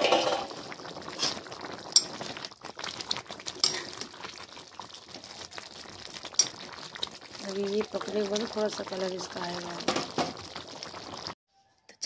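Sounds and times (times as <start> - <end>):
rice boiling in a pan: 0.0 - 11.4.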